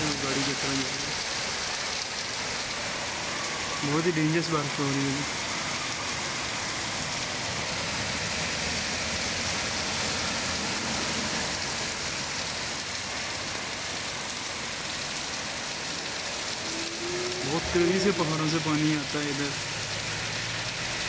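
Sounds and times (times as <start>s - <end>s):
heavy rain on pavement: 0.0s - 21.0s.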